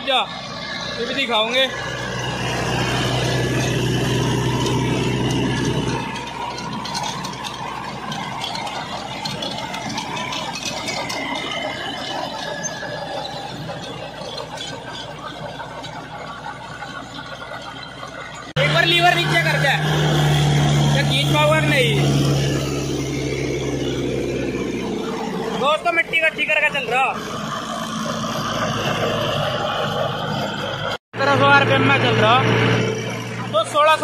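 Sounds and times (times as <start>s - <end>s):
steady metallic squeal: 0.0s - 34.0s
tractor diesel engine under load: 0.0s - 34.0s
rotavator clattering and rattling: 1.2s - 31.4s.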